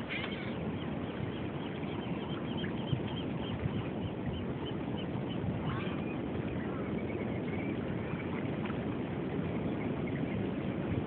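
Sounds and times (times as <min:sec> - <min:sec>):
flowing river water: 0:00.0 - 0:11.0
wind on microphone: 0:00.0 - 0:11.0.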